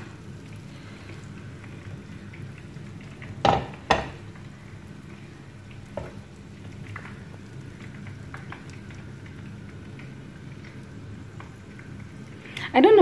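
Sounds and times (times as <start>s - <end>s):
butter sizzling in a pan: 0.0s - 13.0s.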